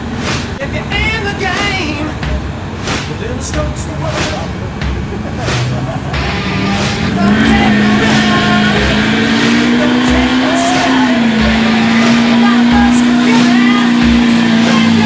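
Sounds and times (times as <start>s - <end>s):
pickup engine at high revs: 1.6s - 15.0s.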